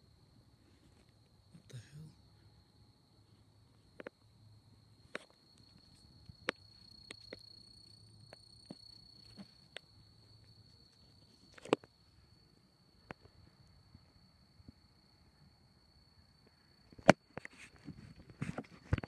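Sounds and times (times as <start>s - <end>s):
cricket trill: 0.0s - 19.0s.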